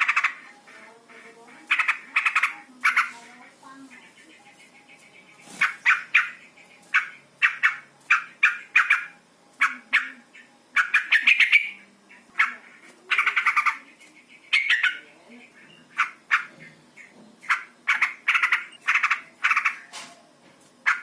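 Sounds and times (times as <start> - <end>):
bird chattering calls: 0.0 - 19.9.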